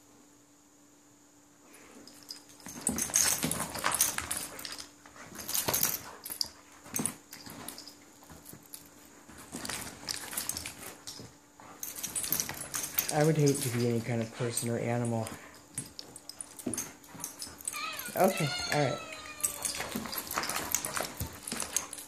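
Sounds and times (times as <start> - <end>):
dog shaking plush toy rustling: 2.1 - 22.0.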